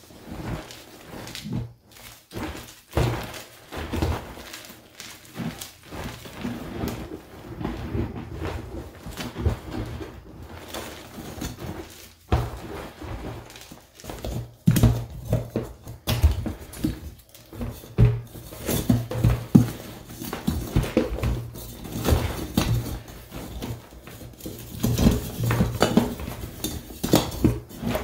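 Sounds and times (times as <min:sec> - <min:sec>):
hands sifting crushed chalk: 0:00.0 - 0:28.0.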